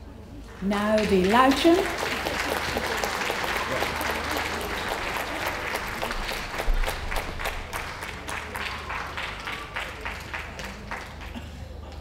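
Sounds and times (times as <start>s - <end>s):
audience applauding: 0.6s - 11.4s.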